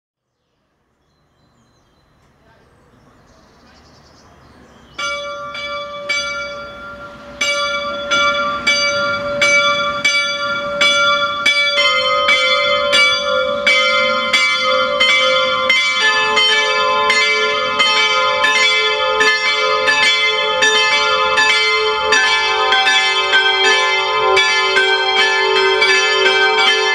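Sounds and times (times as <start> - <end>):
church bells ringing: 4.9 - 26.9.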